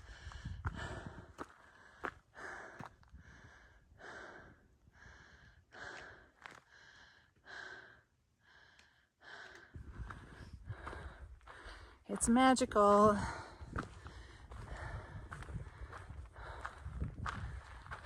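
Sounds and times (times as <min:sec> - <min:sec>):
person breathing hard: 0:00.0 - 0:12.0, 0:13.2 - 0:18.0.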